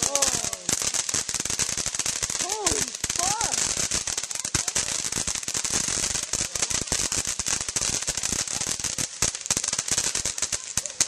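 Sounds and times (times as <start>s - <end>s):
fireworks crackling: 0.0s - 11.0s
steady hiss: 0.0s - 11.0s.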